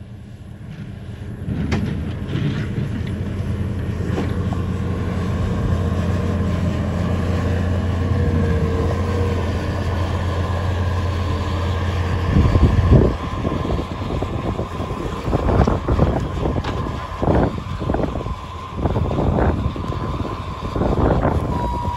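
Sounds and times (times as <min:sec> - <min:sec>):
diesel engine running: 0:00.0 - 0:21.9
wind buffeting microphone: 0:01.5 - 0:21.9.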